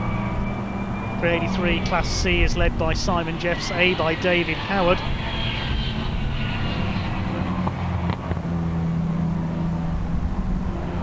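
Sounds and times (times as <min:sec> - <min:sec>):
racing car engine driving past: 0:00.0 - 0:11.0.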